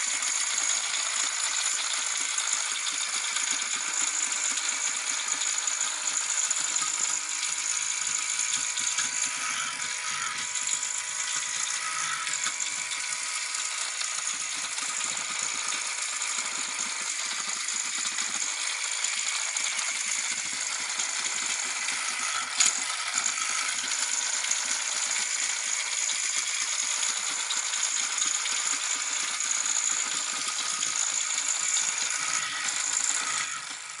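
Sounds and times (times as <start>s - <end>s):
toy robot whirring and rattling: 0.0s - 34.0s.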